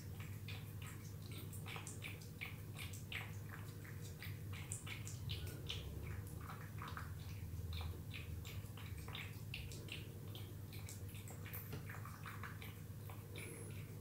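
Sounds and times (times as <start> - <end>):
cat lapping and eating: 0.0 - 14.0.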